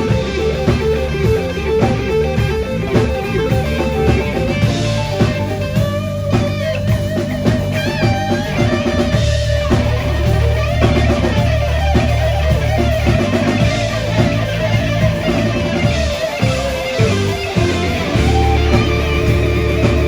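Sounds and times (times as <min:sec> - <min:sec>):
blues-rock band playing: 0:00.0 - 0:20.0
electric guitar lead: 0:00.0 - 0:20.0.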